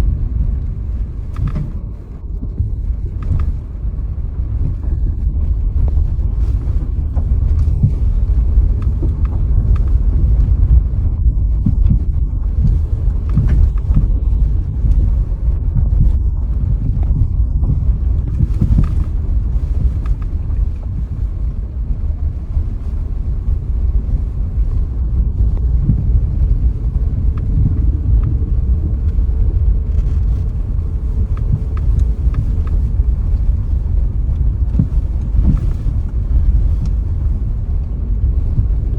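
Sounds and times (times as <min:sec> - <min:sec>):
vehicle road and wind noise: 0:00.0 - 0:38.9.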